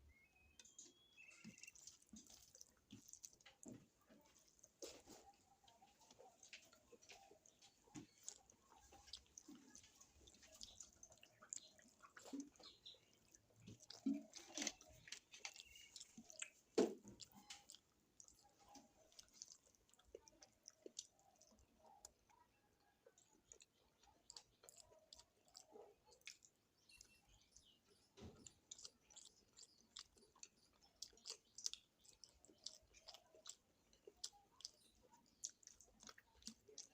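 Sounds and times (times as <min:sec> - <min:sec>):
person chewing food: 0:00.5 - 0:36.9.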